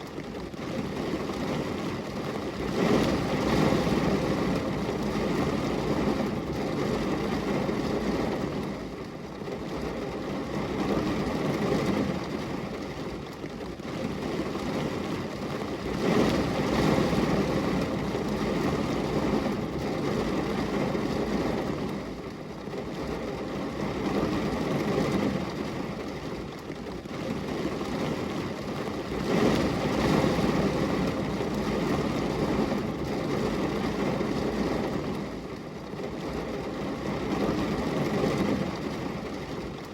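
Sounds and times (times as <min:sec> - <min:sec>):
rain on a glass window: 0:00.0 - 0:39.9.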